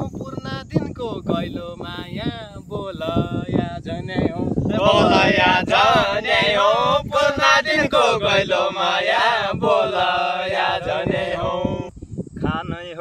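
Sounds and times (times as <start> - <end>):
men singing unaccompanied: 1.2 - 11.9.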